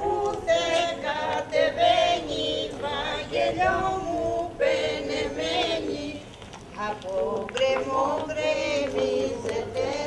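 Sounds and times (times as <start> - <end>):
women singing unaccompanied: 0.0 - 10.0.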